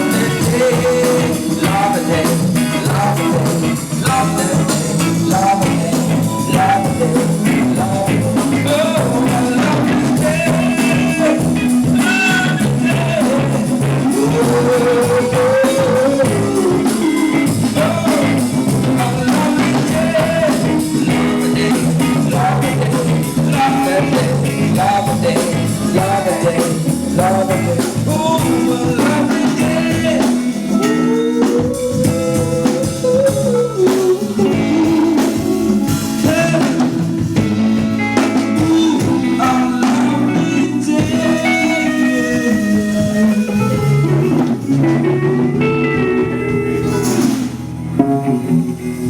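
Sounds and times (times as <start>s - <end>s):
live soul band playing: 0.0s - 49.0s
singer holding wordless notes: 0.0s - 49.0s.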